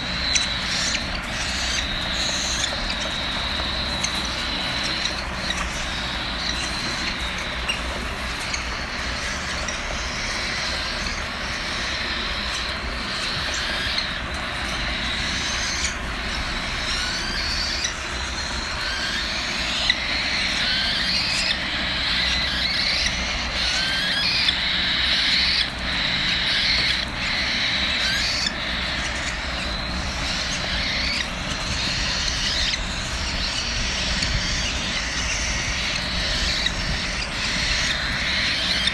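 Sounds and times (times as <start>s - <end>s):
chicks begging with squeaky calls: 0.0s - 38.9s.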